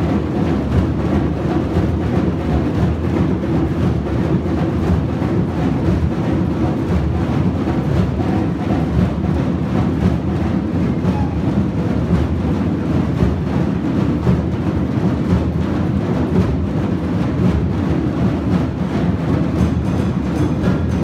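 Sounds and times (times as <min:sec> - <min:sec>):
hand drums playing together: 0:00.0 - 0:21.0.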